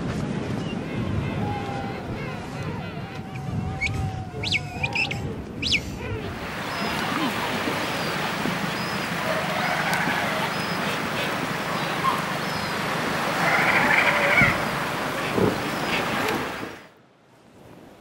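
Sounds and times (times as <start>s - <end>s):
surf on a shingle beach: 0.0s - 18.0s
seal and penguin calls: 0.8s - 8.2s, 8.8s - 16.6s.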